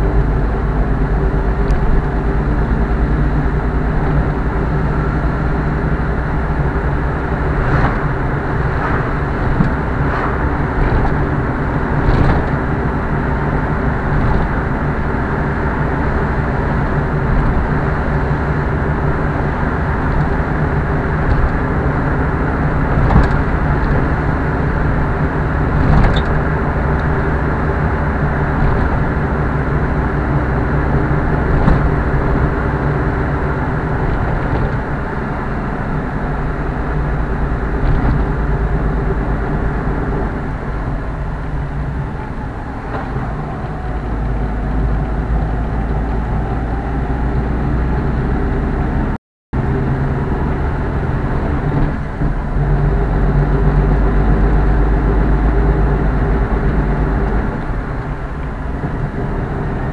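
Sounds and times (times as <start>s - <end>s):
car engine hum: 0.0s - 59.9s
road noise inside car: 0.0s - 59.9s.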